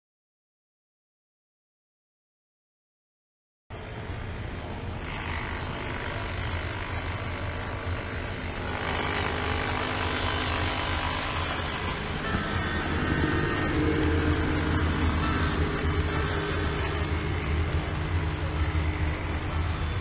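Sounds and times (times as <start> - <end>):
model train motor hum: 3.7 - 20.0.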